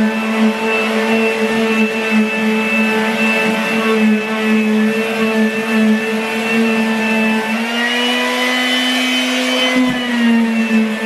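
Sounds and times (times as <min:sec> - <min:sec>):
electric sander whining: 0:00.0 - 0:11.0.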